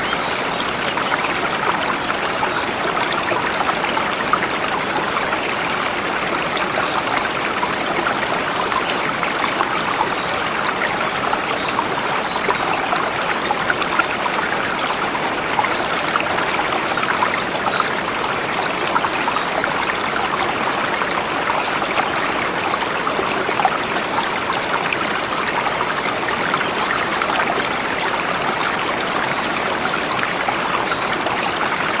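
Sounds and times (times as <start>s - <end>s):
river flowing over rocks: 0.0s - 32.0s.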